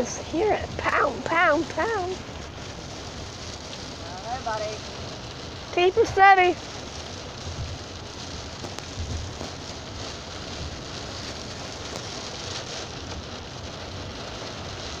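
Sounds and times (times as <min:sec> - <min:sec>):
heavy rain on car roof: 0:00.0 - 0:15.0.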